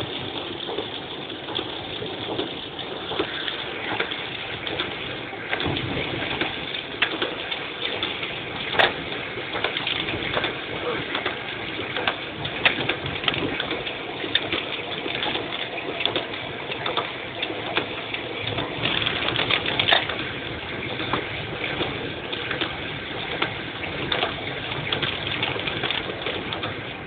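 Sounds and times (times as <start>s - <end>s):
heavy rain on car roof: 0.0s - 27.0s
tyres running through water: 0.0s - 27.0s.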